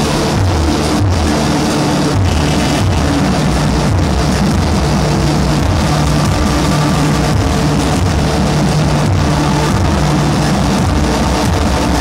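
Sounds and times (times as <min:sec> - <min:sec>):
distorted noise wall: 0:00.0 - 0:12.0.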